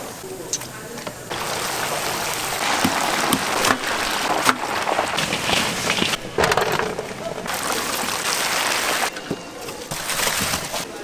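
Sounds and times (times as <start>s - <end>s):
oil popping and crackling: 0.0s - 11.0s
chicken sizzling in oil: 1.2s - 6.4s, 7.0s - 10.9s.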